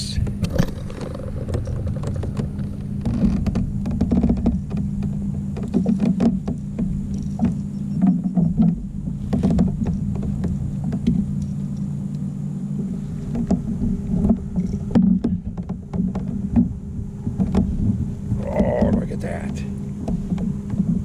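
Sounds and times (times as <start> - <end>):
boat engine drone: 0.0 - 21.0
knocks and clicks of gear: 0.0 - 21.0.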